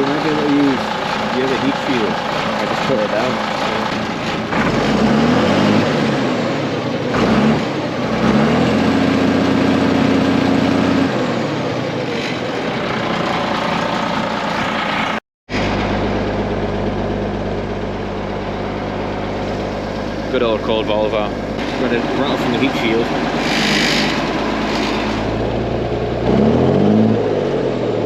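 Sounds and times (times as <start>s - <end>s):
diesel truck engine revving: 0.0s - 28.0s.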